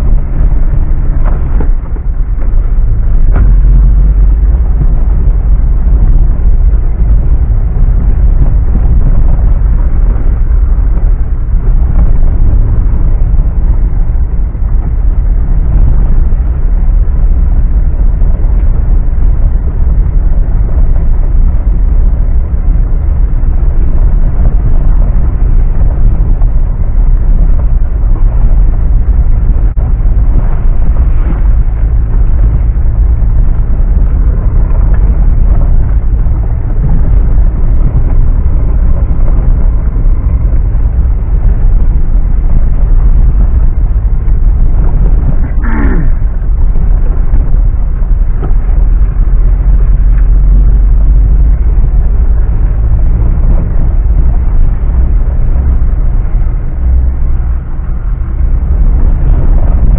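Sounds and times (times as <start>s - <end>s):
off-road vehicle engine rumble: 0.0s - 59.9s.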